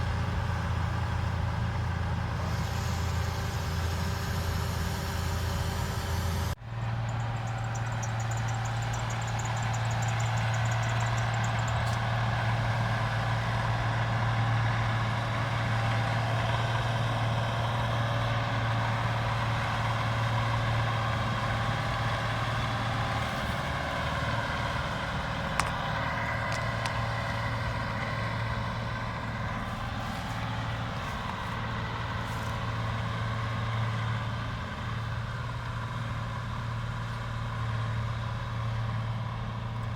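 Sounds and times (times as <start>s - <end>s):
diesel machinery engine hum: 0.0s - 39.9s.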